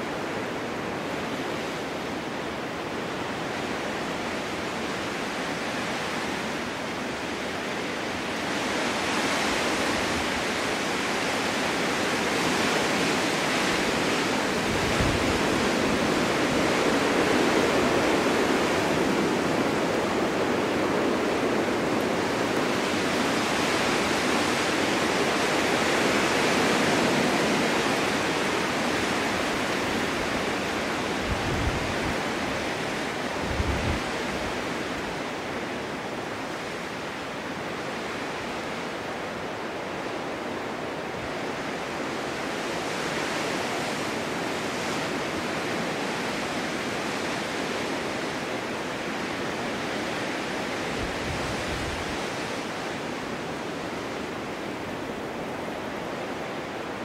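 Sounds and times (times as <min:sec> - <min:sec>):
snowstorm wind gusting: 0:00.0 - 0:57.0.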